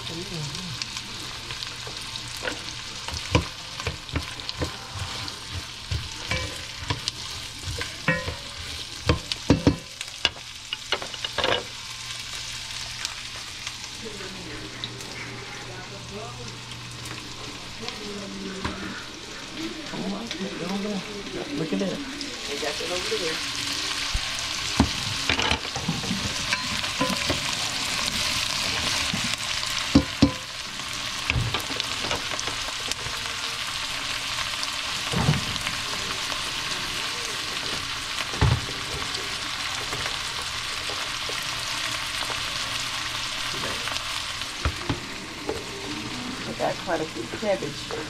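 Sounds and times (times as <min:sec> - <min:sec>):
vegetables sizzling in grease: 0:00.0 - 0:48.0.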